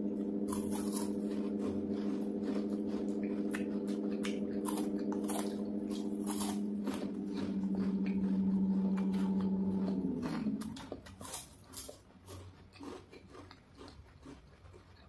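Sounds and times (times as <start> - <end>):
steady low hum: 0.0 - 15.0
crisp crunches of chewing chocolate: 0.1 - 15.0.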